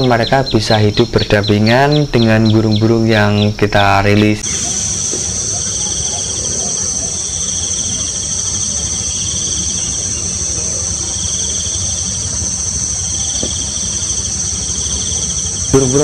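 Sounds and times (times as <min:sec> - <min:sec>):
insects droning: 0:00.0 - 0:16.0
low background rumble: 0:00.0 - 0:16.0
pulsing insect trill: 0:00.0 - 0:16.0.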